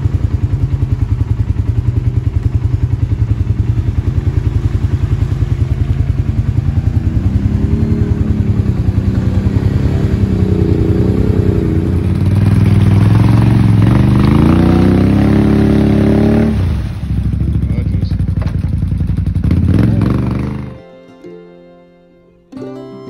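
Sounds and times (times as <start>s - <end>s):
atv engine revving: 0.0s - 20.9s.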